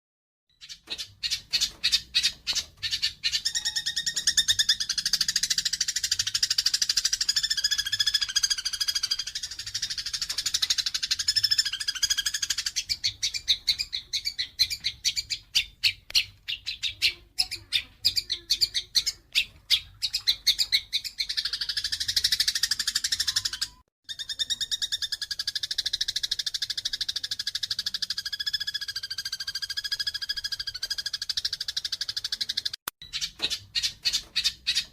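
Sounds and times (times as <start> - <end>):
sparrows chirping harshly: 0.5 - 34.9.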